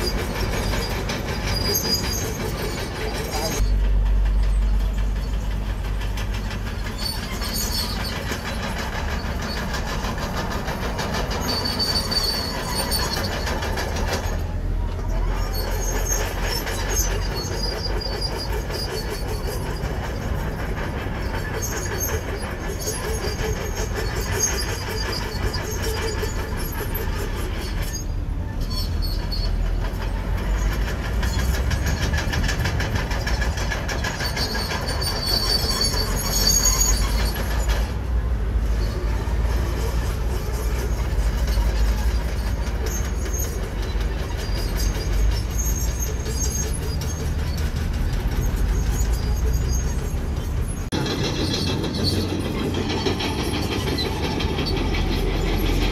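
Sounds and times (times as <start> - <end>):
bulldozer diesel engine rumbling: 0.0 - 55.9
steel tracks squealing and clanking: 0.0 - 55.9.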